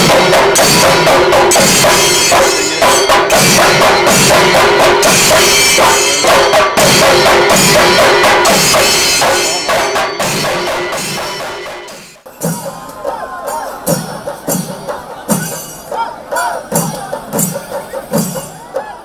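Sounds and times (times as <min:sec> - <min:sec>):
drums beaten with sticks: 0:00.0 - 0:19.0.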